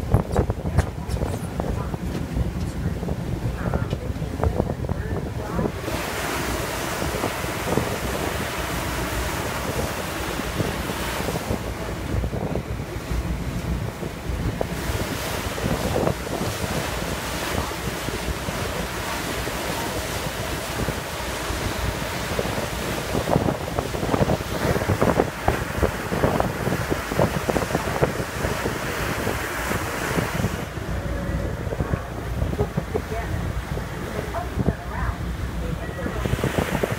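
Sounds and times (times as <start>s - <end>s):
low engine rumble: 0.0s - 36.9s
rushing water: 0.0s - 36.9s
wind buffeting microphone: 0.0s - 36.9s.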